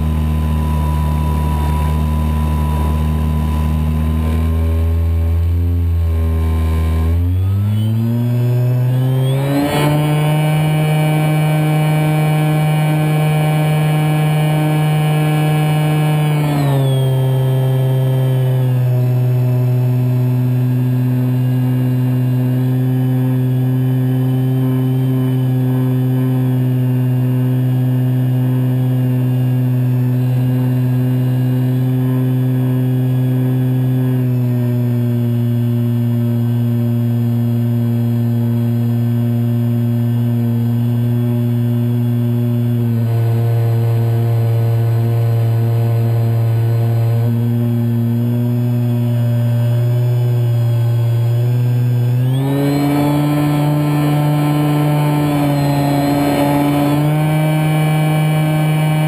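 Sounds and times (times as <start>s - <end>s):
electric motor and propeller buzzing: 0.0s - 59.0s.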